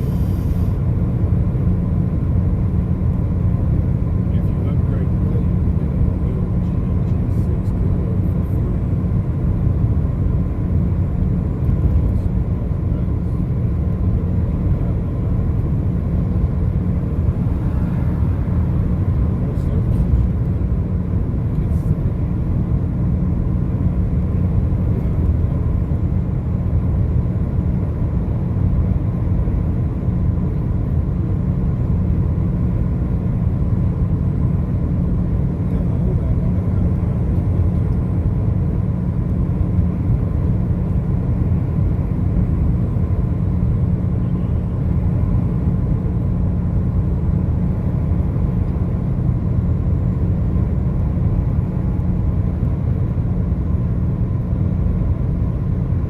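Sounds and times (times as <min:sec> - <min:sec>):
car engine and tyre road noise: 0:00.0 - 0:56.0.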